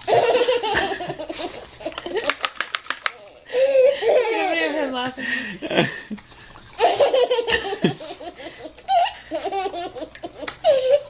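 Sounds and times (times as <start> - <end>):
toddler giggling: 0.0 - 5.0, 6.8 - 11.0.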